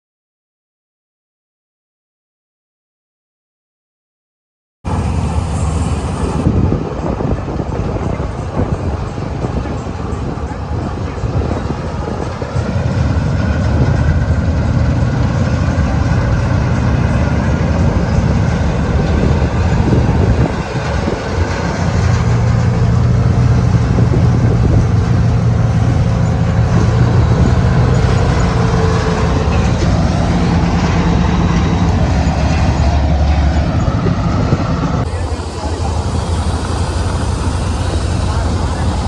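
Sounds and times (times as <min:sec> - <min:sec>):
combine harvester drone: 0:04.9 - 0:39.0.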